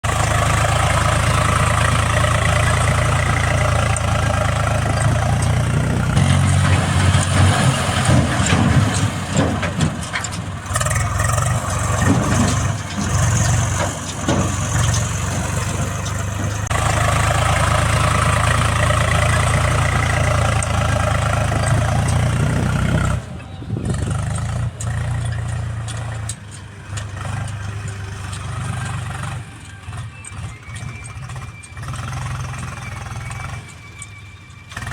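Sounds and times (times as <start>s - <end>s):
heavy diesel engines running: 0.0s - 34.9s.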